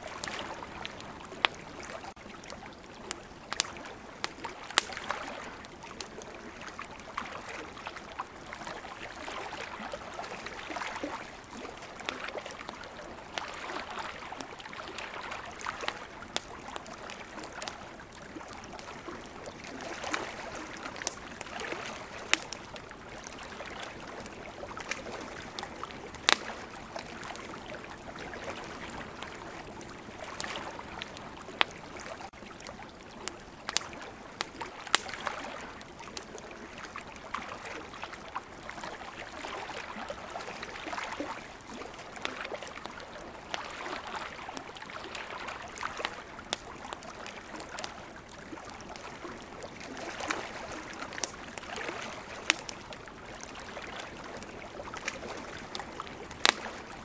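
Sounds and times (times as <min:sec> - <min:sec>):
campfire crackling: 0:00.0 - 0:57.0
ocean waves: 0:06.5 - 0:32.3, 0:36.8 - 0:57.0.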